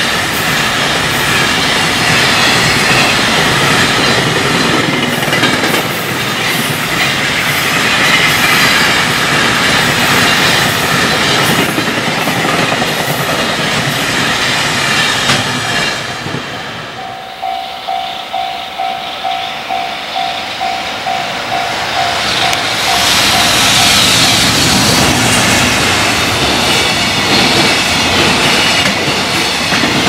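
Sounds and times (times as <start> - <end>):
level-crossing warning bell: 0.0 - 16.0, 16.8 - 29.2
freight train rumble and clatter: 0.0 - 30.0.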